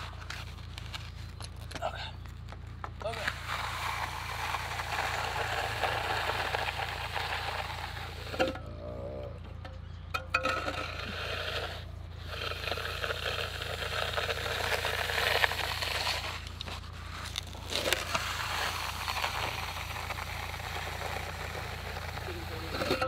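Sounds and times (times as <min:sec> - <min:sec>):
float scraping wet concrete: 0:00.0 - 0:23.0.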